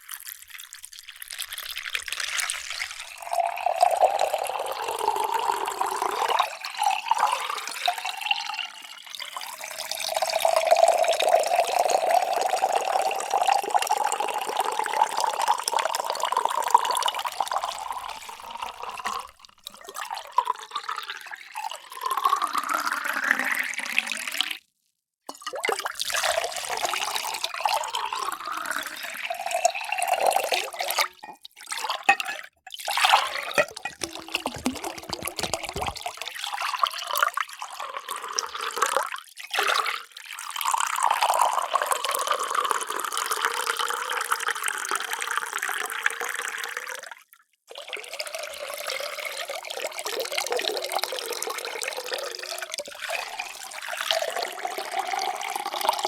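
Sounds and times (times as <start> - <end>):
water pouring into a container: 0.0 - 24.7, 25.3 - 56.0.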